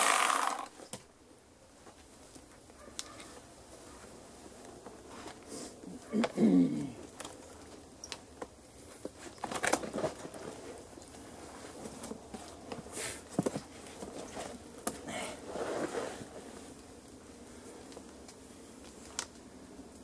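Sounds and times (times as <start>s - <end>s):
branches and leaves rustling: 1.7s - 20.0s.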